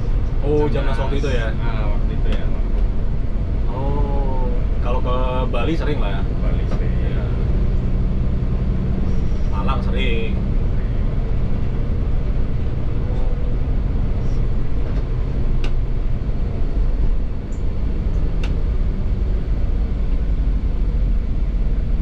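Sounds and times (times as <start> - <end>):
diesel bus engine rumbling: 0.0 - 22.0.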